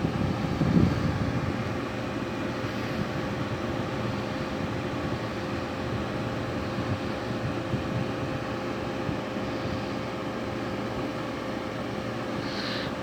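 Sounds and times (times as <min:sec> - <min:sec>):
air conditioning unit running: 0:00.0 - 0:13.0.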